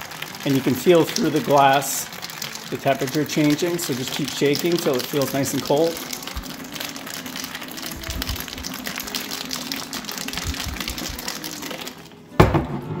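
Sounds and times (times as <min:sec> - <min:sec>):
ice rattling in shaken glass jar: 0:00.0 - 0:12.2.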